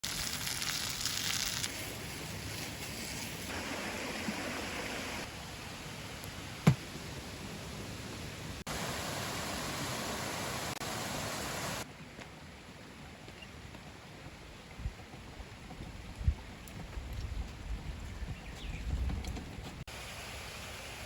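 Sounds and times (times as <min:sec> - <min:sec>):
rushing outdoor noise: 0:01.9 - 0:21.0.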